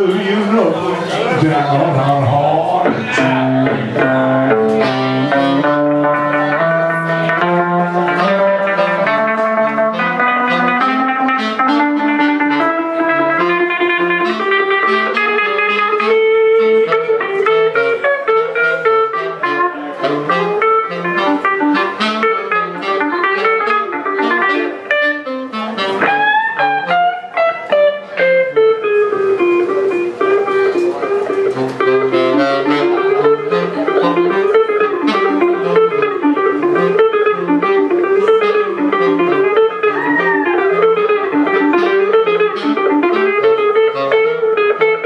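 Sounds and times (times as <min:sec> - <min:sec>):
electric guitar picking notes: 0:00.0 - 0:45.0
saxophone playing held notes: 0:00.0 - 0:45.0.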